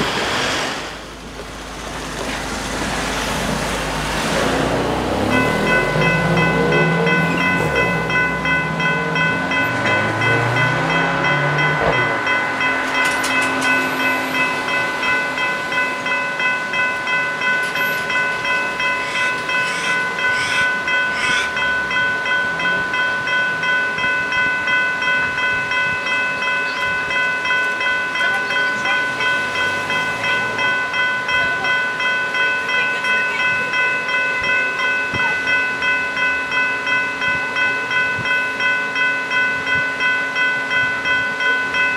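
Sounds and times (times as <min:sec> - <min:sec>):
electronic level crossing bells: 0:04.5 - 0:41.9.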